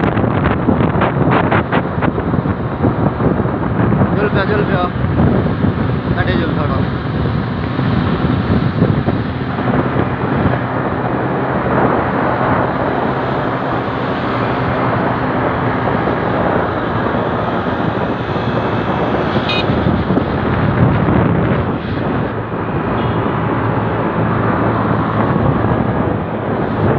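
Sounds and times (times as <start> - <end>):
motorcycle engines running: 0.0 - 26.9
wind buffeting microphone: 0.0 - 26.9.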